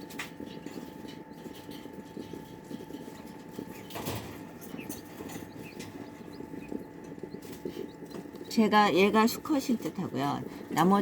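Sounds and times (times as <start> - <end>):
chicks pecking ticks and taps: 0.0 - 11.0
faint hum: 0.0 - 11.0.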